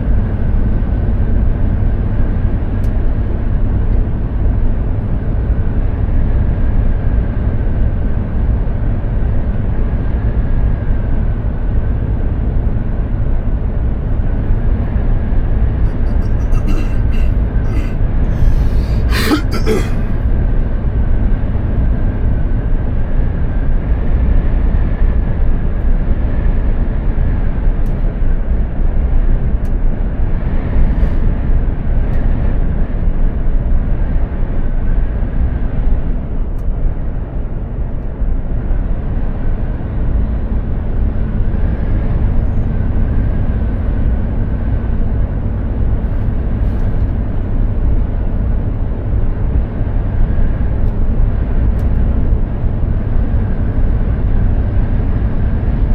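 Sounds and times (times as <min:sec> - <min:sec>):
truck engine deep rumble: 0:00.0 - 0:55.9.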